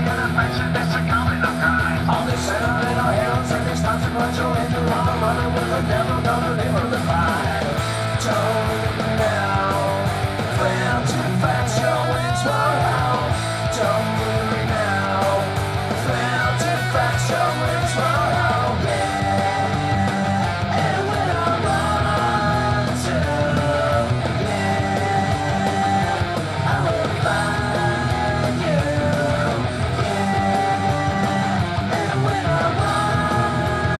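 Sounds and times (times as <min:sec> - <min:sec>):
hard rock song: 0:00.0 - 0:34.0
lead electric guitar: 0:00.0 - 0:34.0.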